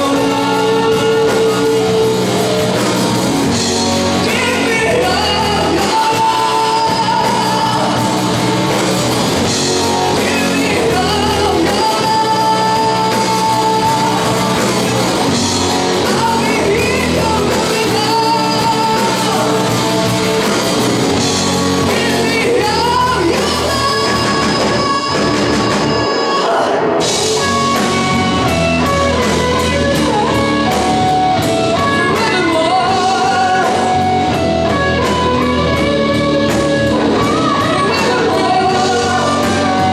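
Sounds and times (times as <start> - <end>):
drum kit: 0.0 - 39.9
electric guitar: 0.0 - 39.9
person singing: 0.0 - 39.9.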